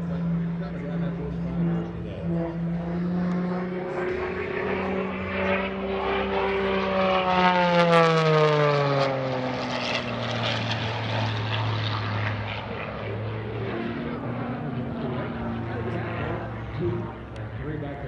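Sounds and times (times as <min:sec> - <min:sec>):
propeller plane engine passing: 0:00.0 - 0:18.0.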